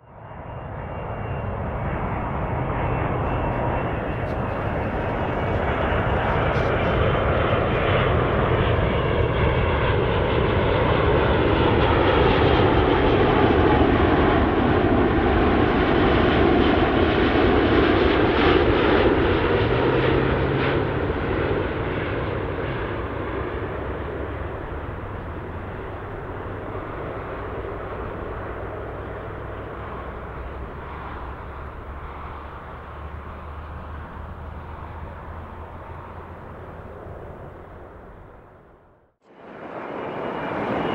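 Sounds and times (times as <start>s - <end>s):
jet airliner passing: 0.0s - 40.9s.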